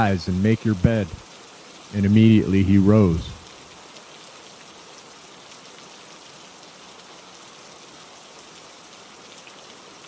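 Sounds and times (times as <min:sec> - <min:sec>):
steady rainfall hiss: 0:00.0 - 0:10.0.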